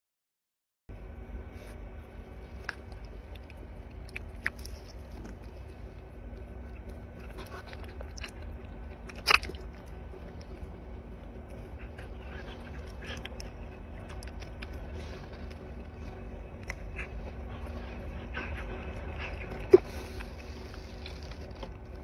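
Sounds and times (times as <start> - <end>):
animal chewing fruit: 1.6 - 22.0.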